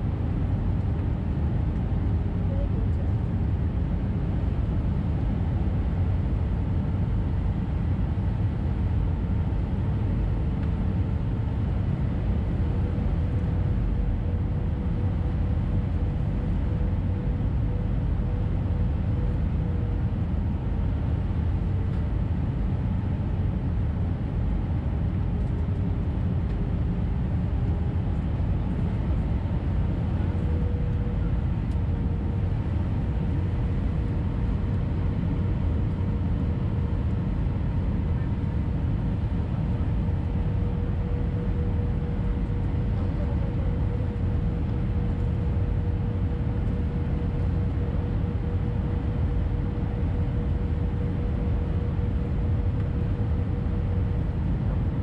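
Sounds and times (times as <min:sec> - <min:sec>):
airplane cabin rumble: 0:00.0 - 0:55.0
jet engine whine: 0:00.0 - 0:55.0.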